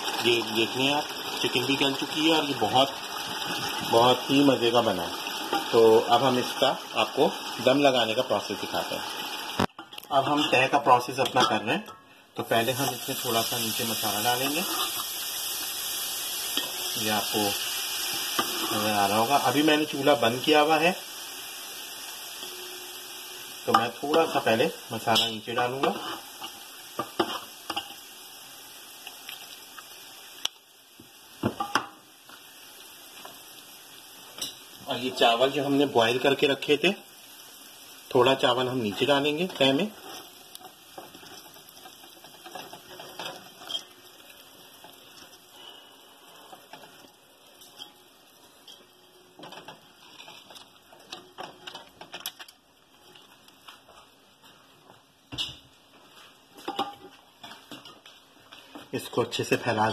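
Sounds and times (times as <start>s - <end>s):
oil sizzling in pot: 0.0s - 59.9s.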